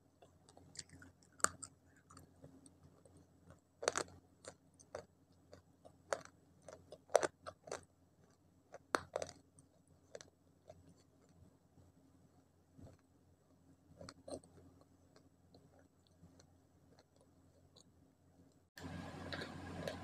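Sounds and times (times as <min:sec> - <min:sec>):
crunchy biting and chewing: 0:00.2 - 0:11.4, 0:14.0 - 0:17.9, 0:18.9 - 0:20.0.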